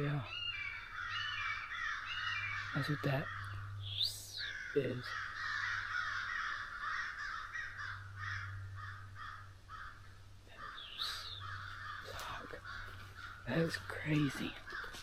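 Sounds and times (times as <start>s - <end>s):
crows cawing: 0.0s - 15.0s
high rising and falling call: 0.0s - 15.0s.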